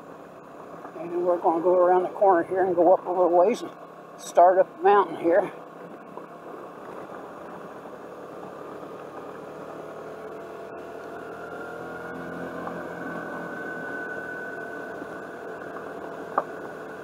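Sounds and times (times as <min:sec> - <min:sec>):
scooter engine running: 0:00.0 - 0:17.0
thin whine: 0:00.0 - 0:17.0.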